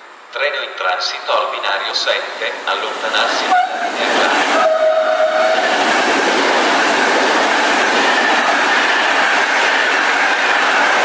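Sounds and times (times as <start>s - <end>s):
electric locomotive passing: 0.0s - 11.0s
train wheels on rails: 2.0s - 11.0s.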